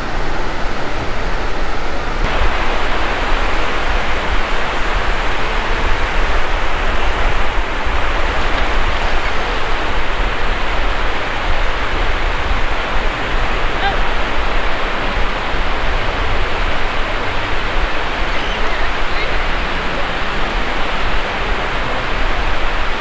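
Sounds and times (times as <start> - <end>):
wind on microphone: 0.0 - 23.0
surf breaking: 2.2 - 22.2.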